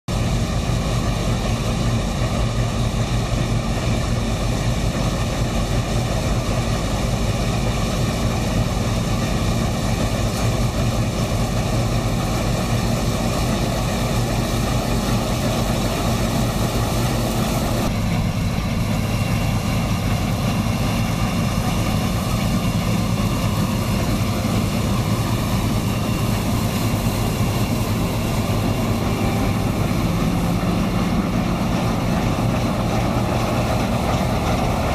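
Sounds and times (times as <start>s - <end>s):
engine hum: 0.1s - 34.9s
threshing machinery rushing: 5.0s - 34.9s.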